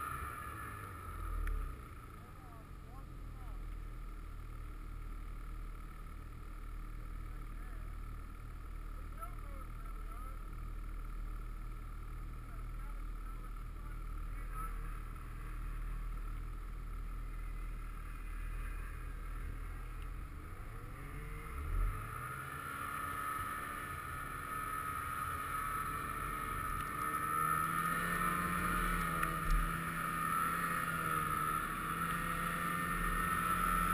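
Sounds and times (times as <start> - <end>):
snowmobile engines running: 0.0 - 33.9.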